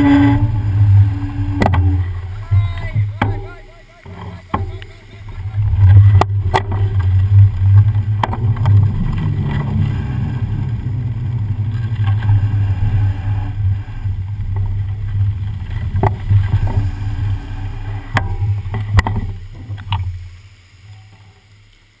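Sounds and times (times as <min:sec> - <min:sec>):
wind rumble on microphone: 0:00.0 - 0:03.4, 0:04.0 - 0:20.4
tyres rolling through water: 0:00.0 - 0:22.0.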